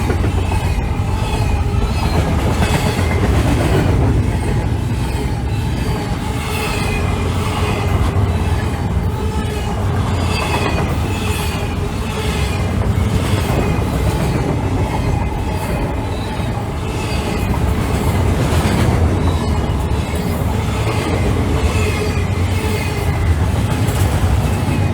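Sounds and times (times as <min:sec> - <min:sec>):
freight train cars rumbling: 0:00.0 - 0:24.9.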